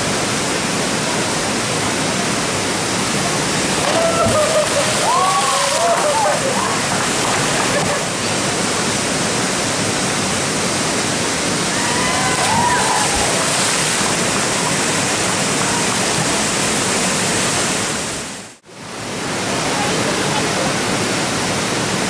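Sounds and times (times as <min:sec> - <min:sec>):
water rushing over rapids: 0:00.0 - 0:22.0.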